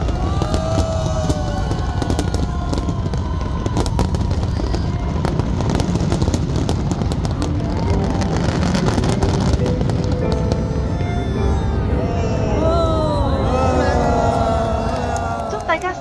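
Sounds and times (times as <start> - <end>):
fireworks bangs and crackles: 0.0 - 11.7, 13.8 - 16.0.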